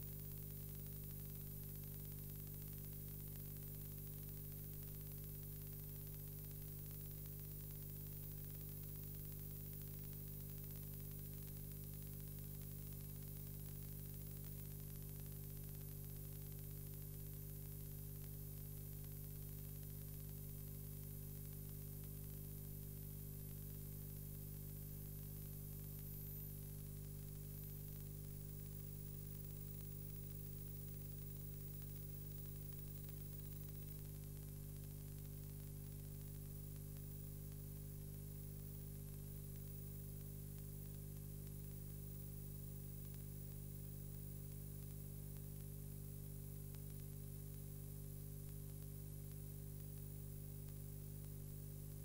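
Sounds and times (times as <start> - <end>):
constant hiss: 0.0 - 52.0
electrical mains hum: 0.0 - 52.0.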